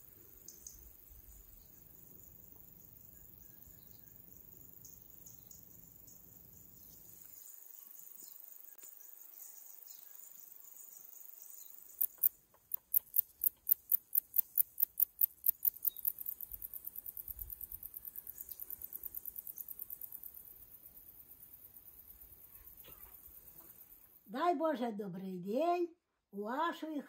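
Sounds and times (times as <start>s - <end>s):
crickets chirping: 0.0s - 24.3s
faint high cricket trill: 0.0s - 24.3s.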